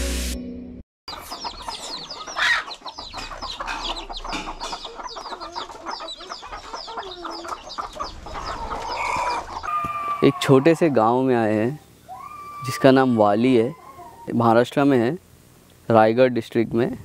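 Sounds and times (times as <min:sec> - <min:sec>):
hens and rooster clucking: 0:01.1 - 0:15.1.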